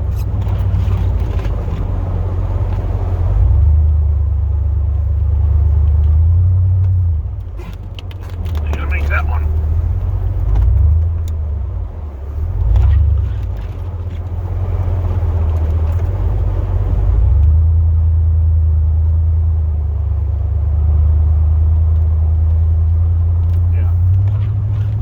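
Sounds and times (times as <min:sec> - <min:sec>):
truck engine drone inside cab: 0:00.0 - 0:25.0.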